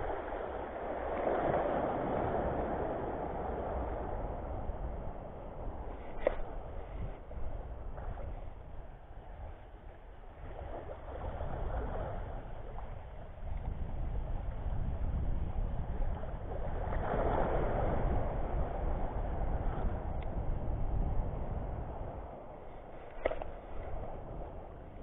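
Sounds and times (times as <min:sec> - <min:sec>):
small waves washing ashore: 0:00.0 - 0:25.0
wind rumbling on microphone: 0:00.0 - 0:25.0.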